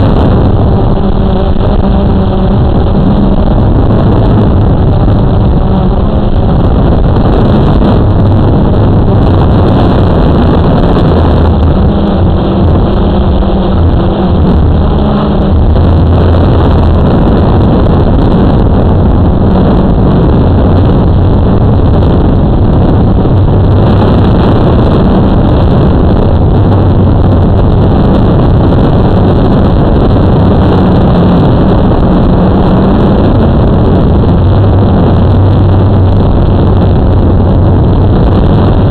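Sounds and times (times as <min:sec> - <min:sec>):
drone motors humming: 0:00.0 - 0:38.9
wind rumbling on microphone: 0:00.0 - 0:38.9.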